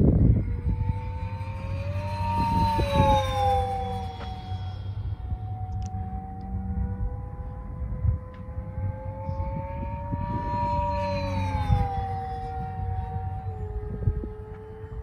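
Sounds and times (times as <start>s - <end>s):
low rumbling noise: 0.0s - 15.0s
model plane propeller whine: 0.0s - 15.0s.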